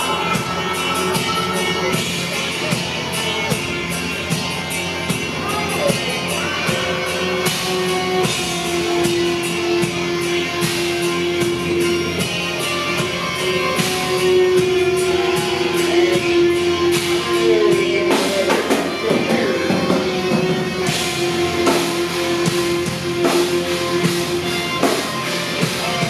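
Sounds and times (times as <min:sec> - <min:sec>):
drum kit with cymbal hits: 0:00.0 - 0:26.0
electric guitars: 0:00.0 - 0:26.0.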